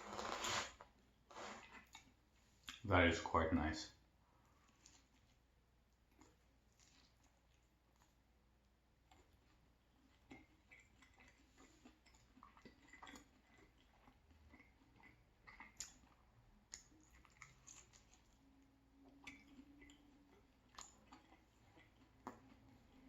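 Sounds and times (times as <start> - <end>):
person chewing food: 0.0 - 2.8, 4.2 - 23.0.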